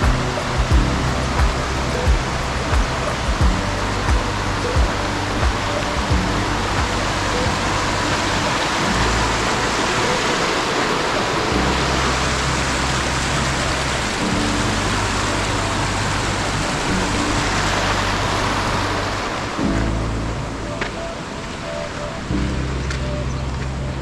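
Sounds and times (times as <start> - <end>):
lo-fi hip-hop music: 0.0 - 24.0
stream water rushing: 0.0 - 24.0.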